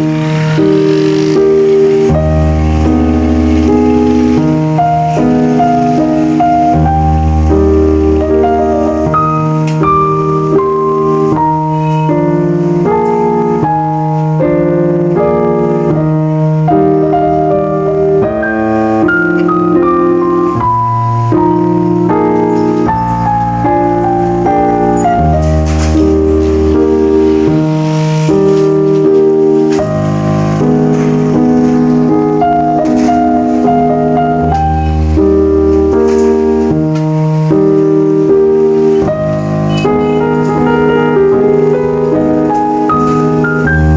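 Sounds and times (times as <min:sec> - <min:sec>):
piano melody with chords: 0:00.0 - 0:43.9.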